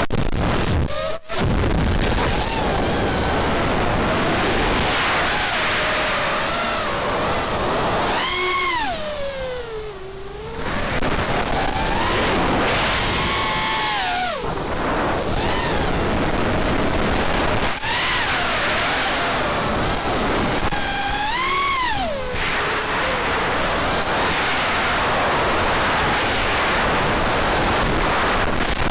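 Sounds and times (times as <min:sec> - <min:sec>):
wind noise: 0:00.0 - 0:28.9
drone motors whining: 0:00.5 - 0:28.9.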